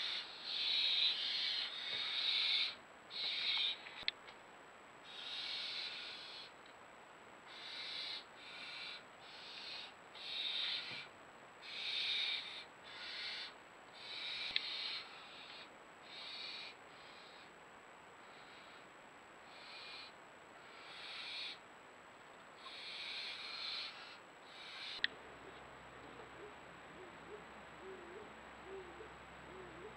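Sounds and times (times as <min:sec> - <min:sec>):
barn owls screeching: 0:00.0 - 0:04.0, 0:05.1 - 0:06.5, 0:07.5 - 0:17.5, 0:19.5 - 0:21.6, 0:22.6 - 0:29.9.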